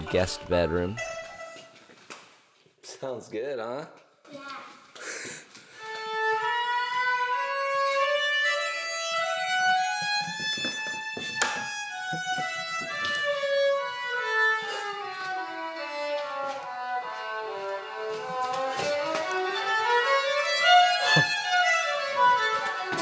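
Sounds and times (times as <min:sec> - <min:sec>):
solo violin melody: 0:00.0 - 0:01.8, 0:05.7 - 0:23.0.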